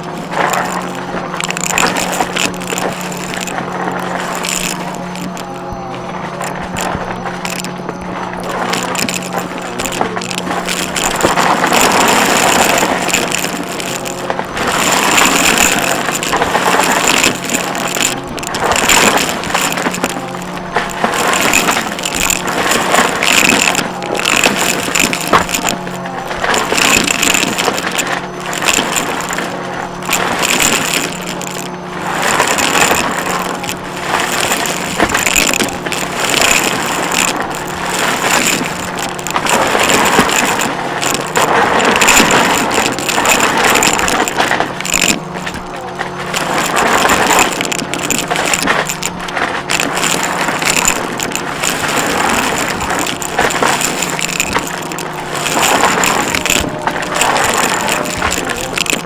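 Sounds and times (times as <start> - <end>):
upright vacuum cleaner running: 0.0 - 59.0.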